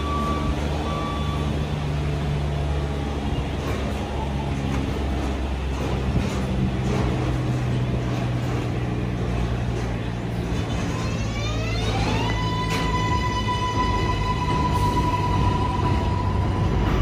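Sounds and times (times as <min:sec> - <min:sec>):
train motors whining: 0:00.0 - 0:17.0.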